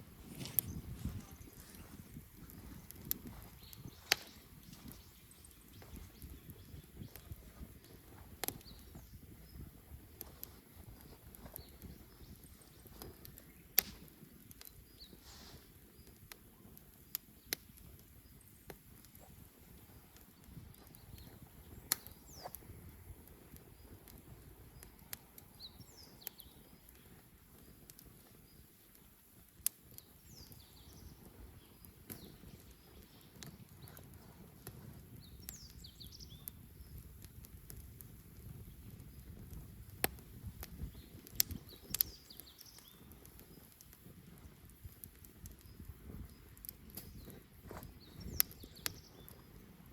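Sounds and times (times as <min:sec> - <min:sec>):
bonfire crackling: 0:00.0 - 0:49.9
low rumble of flames: 0:00.0 - 0:49.9
sharp pops from fire: 0:00.0 - 0:49.9.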